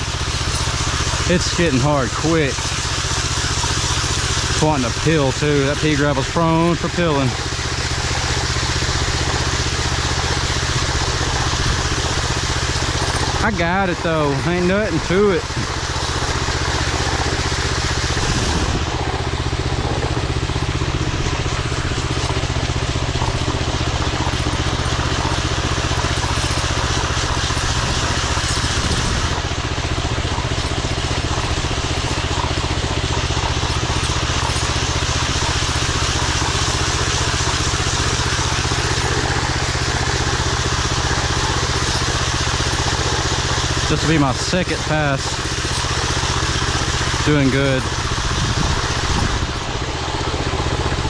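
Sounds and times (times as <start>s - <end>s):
petrol engine running: 0.0s - 51.0s.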